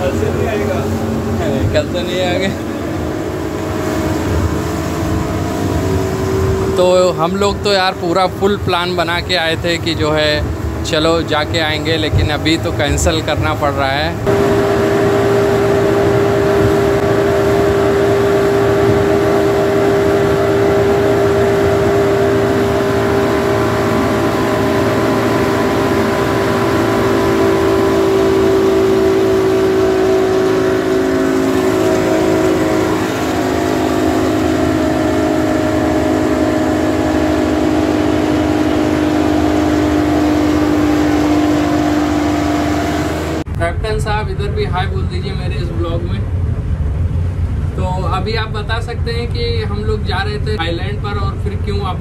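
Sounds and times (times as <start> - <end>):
rushing water of wake: 0.0 - 43.6, 44.4 - 52.0
outboard motors running: 0.0 - 52.0.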